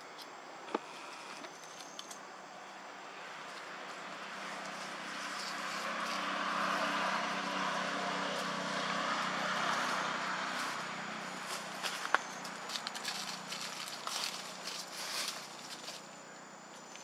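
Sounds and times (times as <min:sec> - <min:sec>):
distant engine passing: 0:02.8 - 0:16.8.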